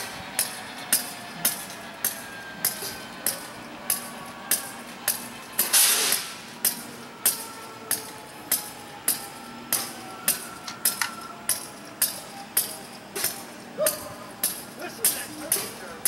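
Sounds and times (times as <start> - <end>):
railroad warning bell clanging: 0.0 - 16.0.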